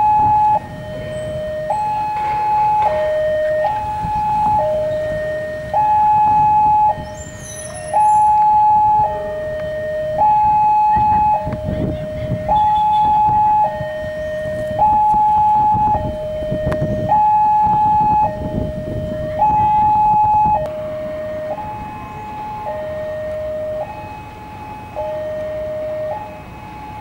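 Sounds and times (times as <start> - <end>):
two-tone level crossing alarm: 0.0 - 27.0.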